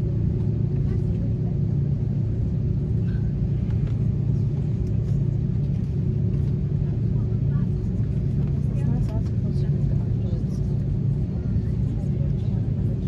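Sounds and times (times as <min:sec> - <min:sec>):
aircraft cabin hum: 0:00.0 - 0:13.0.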